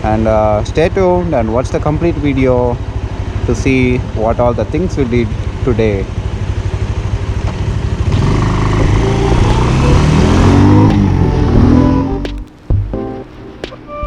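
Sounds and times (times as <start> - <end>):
motorcycle engine: 0.0 - 12.7.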